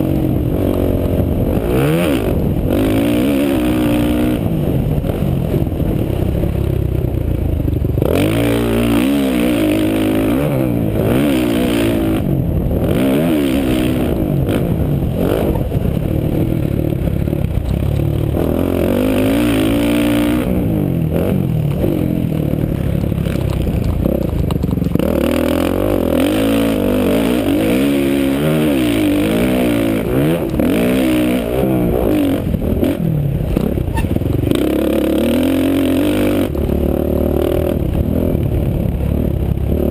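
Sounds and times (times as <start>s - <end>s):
motocross engine revving: 0.0s - 5.9s, 7.9s - 38.5s.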